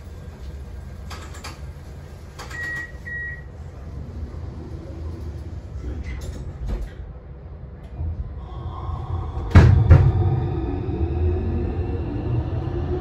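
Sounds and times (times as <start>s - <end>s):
low steady hum: 1.8s - 13.0s.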